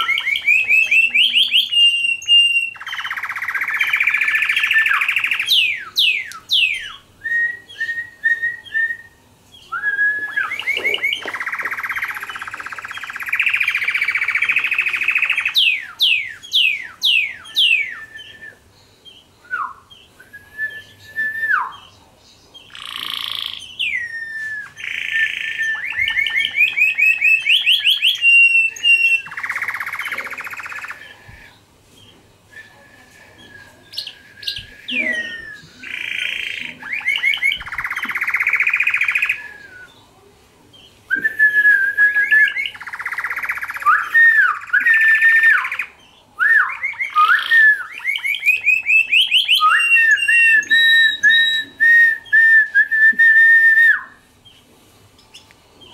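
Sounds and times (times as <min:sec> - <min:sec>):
canary singing: 0:00.0 - 0:40.2, 0:42.0 - 0:55.9.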